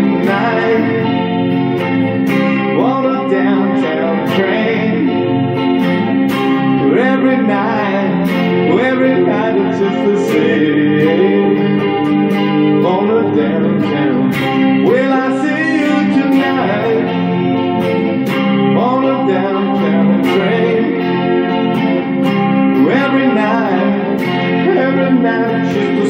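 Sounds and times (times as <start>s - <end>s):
person singing: 0.0s - 22.1s, 22.7s - 26.0s.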